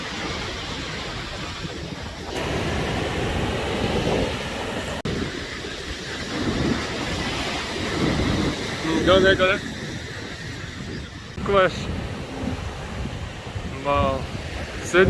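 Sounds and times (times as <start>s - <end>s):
wind buffeting microphone: 0.0s - 15.0s
wind rushing: 0.0s - 15.0s.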